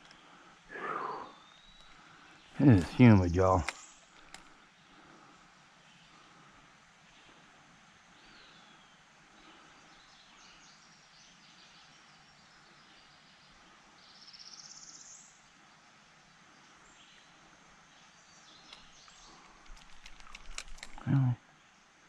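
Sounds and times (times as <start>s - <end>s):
faint bird chirps: 0.0s - 21.9s.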